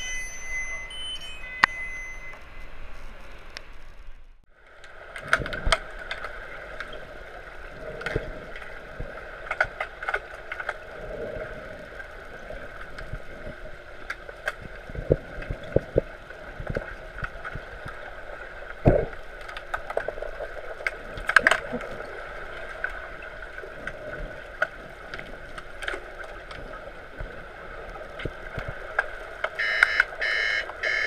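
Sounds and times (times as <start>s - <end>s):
steady underwater hum: 0.0s - 31.0s.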